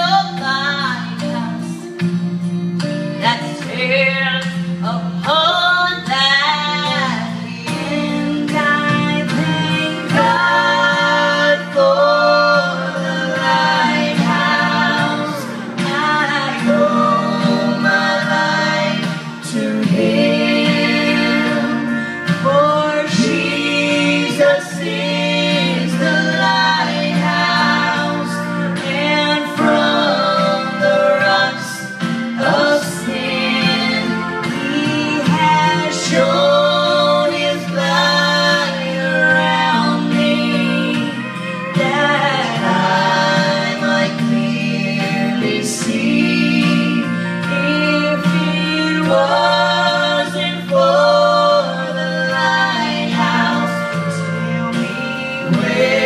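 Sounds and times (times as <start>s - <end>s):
vocal trio singing in harmony: 0.0s - 2.1s, 2.8s - 56.0s
instrumental backing: 0.0s - 56.0s.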